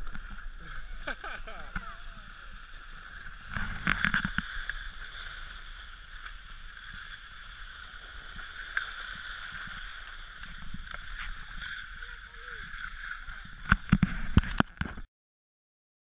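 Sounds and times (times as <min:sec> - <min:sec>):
skis sliding on snow: 0:00.0 - 0:15.0.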